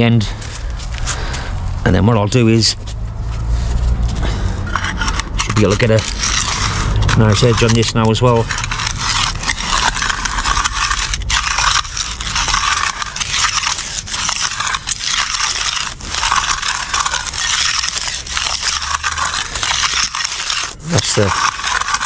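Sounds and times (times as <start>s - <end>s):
trowel scraping wet concrete: 4.2s - 22.0s.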